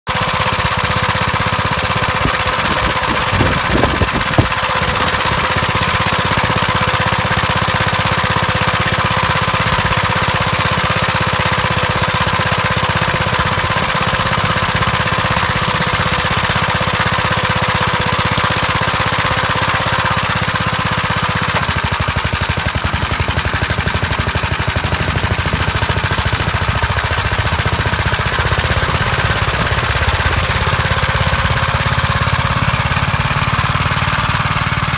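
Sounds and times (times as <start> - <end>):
single-cylinder engine chugging: 0.1 - 34.9.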